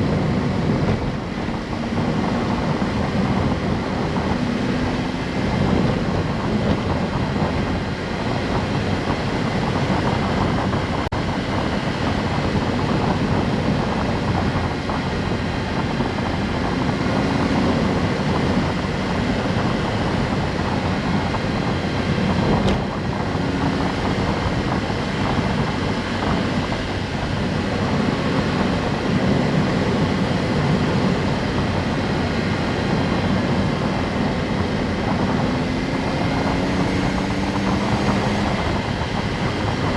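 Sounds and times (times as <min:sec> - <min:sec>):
car engine running: 0:00.0 - 0:39.9
tyre and road noise: 0:00.0 - 0:39.9.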